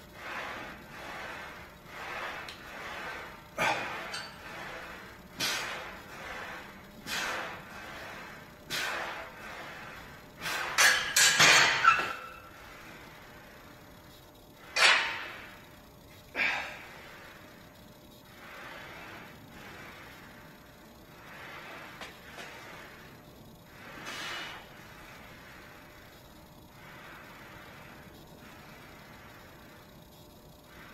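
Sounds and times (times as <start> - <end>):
forceful breaths: 0.2 - 11.8, 16.3 - 30.0.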